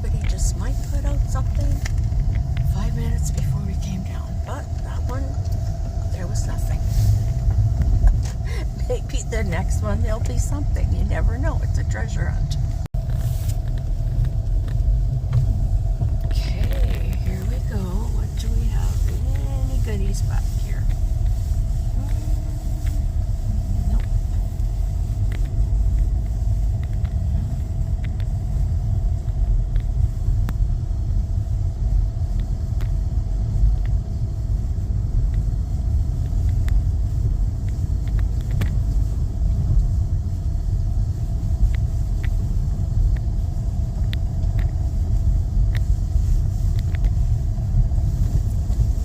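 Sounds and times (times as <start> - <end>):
vehicle cabin rumble: 0.0 - 49.0.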